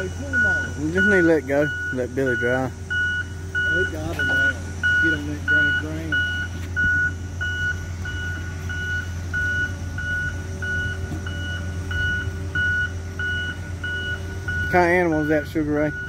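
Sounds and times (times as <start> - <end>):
backup alarm beeping: 0.0 - 16.0
diesel engine running: 0.0 - 16.0.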